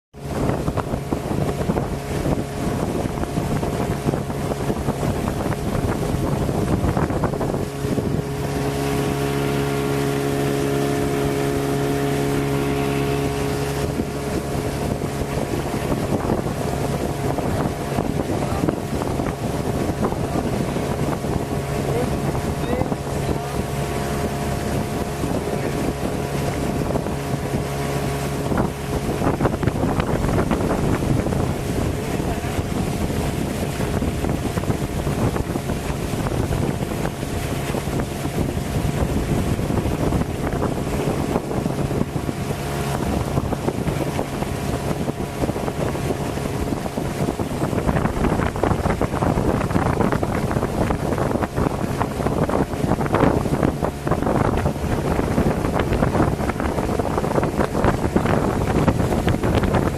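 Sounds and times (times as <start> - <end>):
boat motor humming: 0.1 - 59.9
wind on microphone: 0.1 - 59.9.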